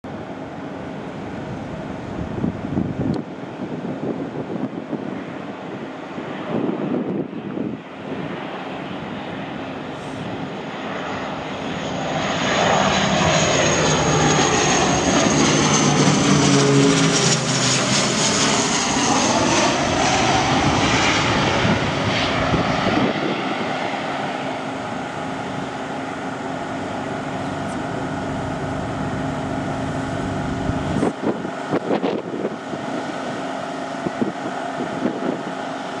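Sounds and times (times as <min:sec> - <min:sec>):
turboprop aircraft flying overhead: 0:00.1 - 0:36.0.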